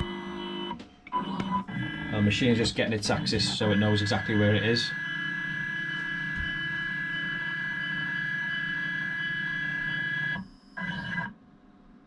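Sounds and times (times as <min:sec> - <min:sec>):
motors whining: 0:00.0 - 0:11.4.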